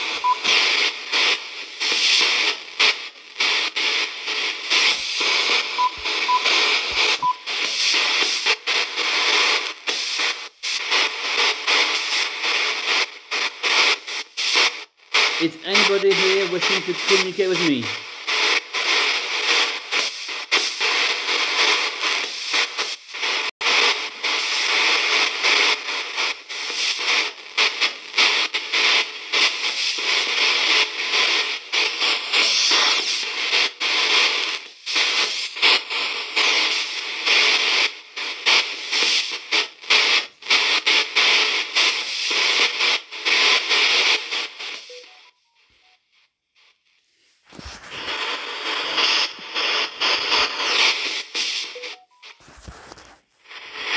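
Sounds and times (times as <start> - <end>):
radio static and chopped fragments: 0.0 - 44.9, 47.5 - 53.9.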